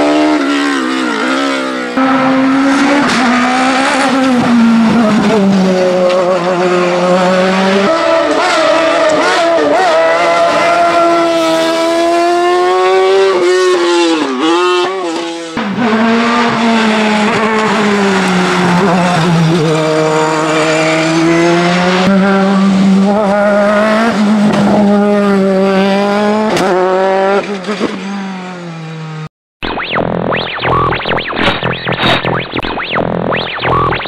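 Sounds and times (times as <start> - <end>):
racing car engines revving: 0.0 - 29.3.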